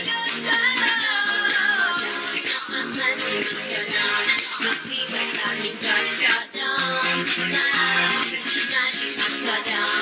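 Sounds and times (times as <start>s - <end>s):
pop song with band backing: 0.0s - 10.0s.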